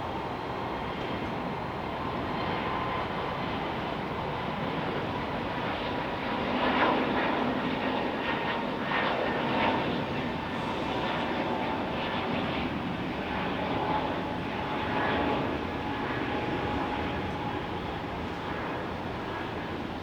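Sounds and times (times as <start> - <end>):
airliner engines running: 0.0 - 20.0.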